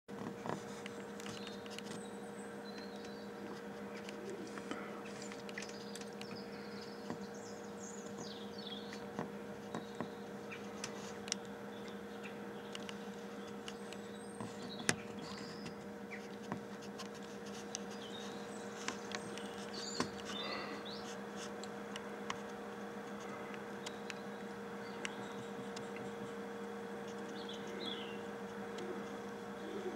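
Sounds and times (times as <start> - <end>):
steady low hum: 0.1 - 29.9
small birds chirping: 0.4 - 29.9.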